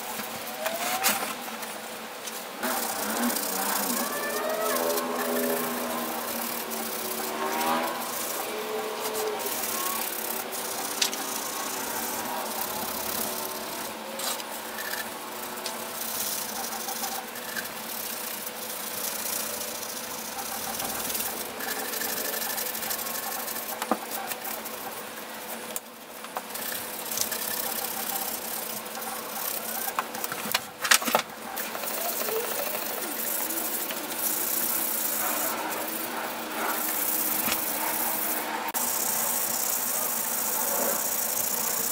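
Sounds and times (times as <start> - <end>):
steady hum: 0.0 - 41.9
scouring pad rasping on metal: 2.6 - 25.0, 26.5 - 30.5, 31.5 - 38.8.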